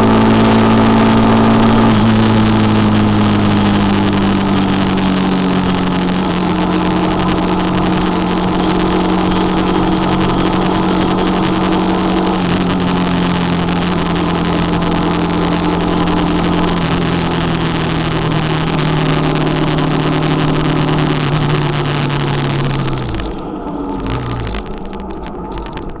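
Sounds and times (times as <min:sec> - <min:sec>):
motorcycle engine cruising: 0:00.0 - 0:26.0
wind rush: 0:00.0 - 0:26.0.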